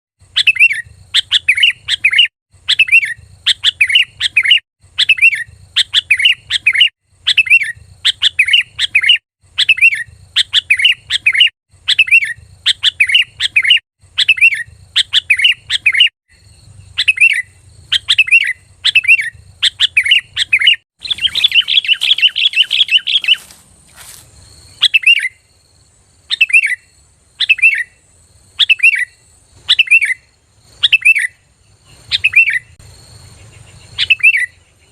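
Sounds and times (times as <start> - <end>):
bulbul singing: 0.3 - 25.5, 26.3 - 28.0, 28.6 - 34.9.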